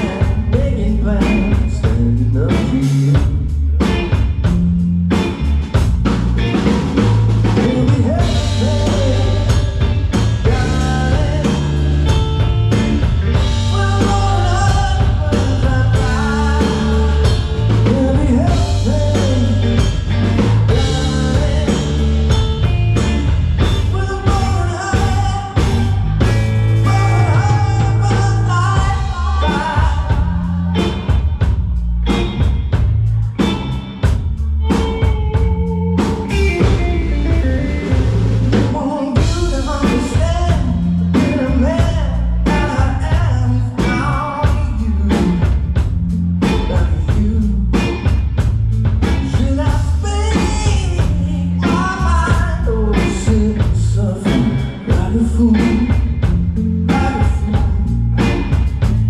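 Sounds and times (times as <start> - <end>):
live blues-rock band playing: 0.0 - 59.0.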